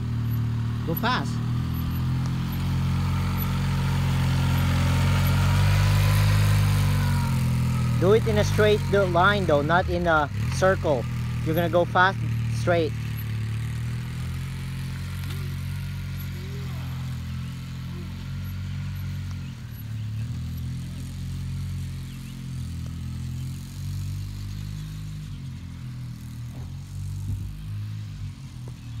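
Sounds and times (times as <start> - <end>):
quad bike engine running: 0.0 - 29.0.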